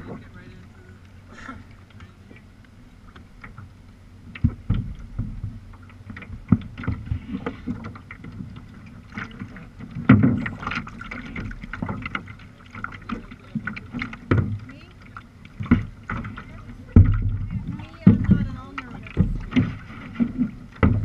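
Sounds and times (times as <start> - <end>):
kayak paddle splashes and knocks: 1.0 - 21.0.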